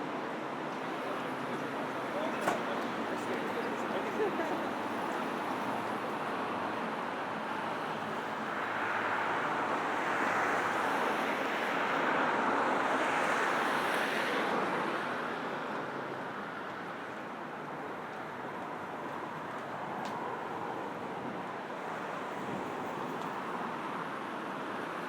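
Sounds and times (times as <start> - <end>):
background traffic hum: 0.0 - 25.0.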